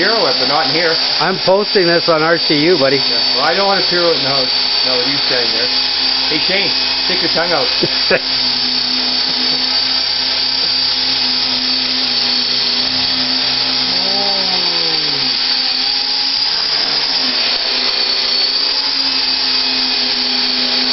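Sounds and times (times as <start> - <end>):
rc helicopter rotor whine: 0.0 - 20.9.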